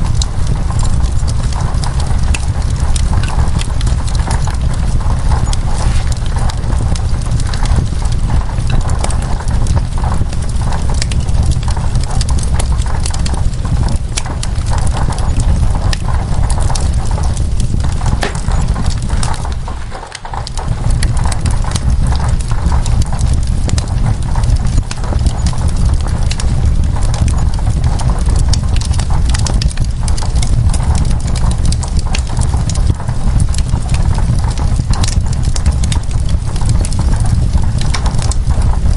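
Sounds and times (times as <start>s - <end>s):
low rumble: 0.0s - 33.2s
rain on window glass: 0.0s - 38.9s
wood fire crackling and popping: 0.0s - 38.9s.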